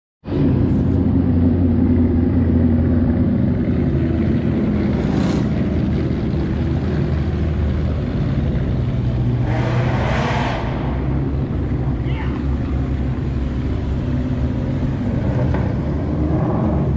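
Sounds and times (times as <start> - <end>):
car exhaust rumbling: 0.2 - 16.9.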